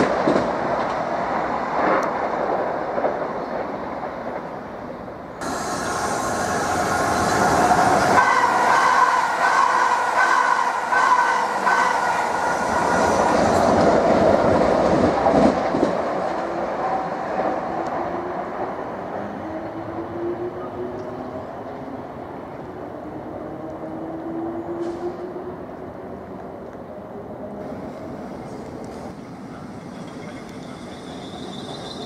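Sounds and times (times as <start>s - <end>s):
train wheel and rail noise: 0.0s - 32.0s.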